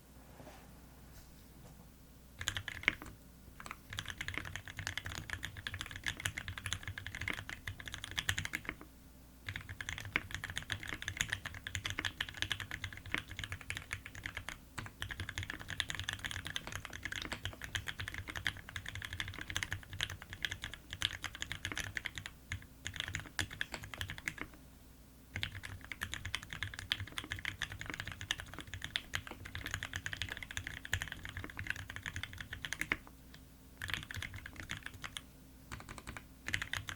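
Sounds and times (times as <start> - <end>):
fast mechanical keyboard typing: 2.4 - 8.8, 9.4 - 24.6, 25.4 - 33.1, 33.8 - 36.9.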